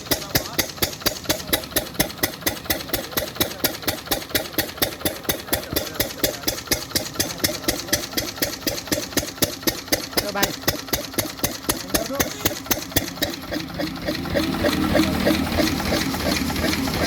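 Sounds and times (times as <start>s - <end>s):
diesel engine knocking steadily: 0.0s - 17.0s.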